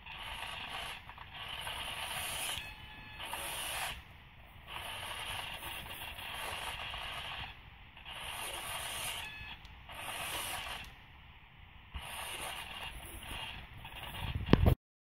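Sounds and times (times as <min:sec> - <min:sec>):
servos whirring: 0:00.0 - 0:11.0, 0:11.9 - 0:14.8.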